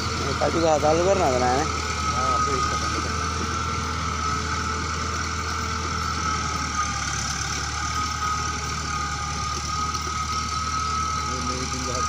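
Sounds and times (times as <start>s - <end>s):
bulldozer diesel engine: 0.0s - 12.0s
high whine: 0.0s - 12.0s.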